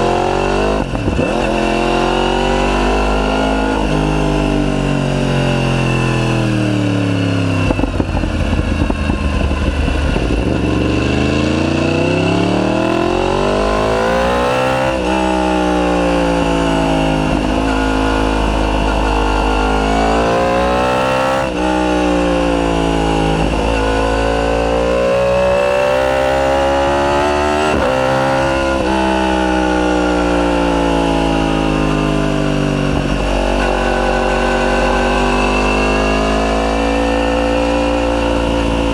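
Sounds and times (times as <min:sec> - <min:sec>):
exhaust crackling: 0:00.0 - 0:38.9
motorcycle engine accelerating: 0:00.0 - 0:38.9.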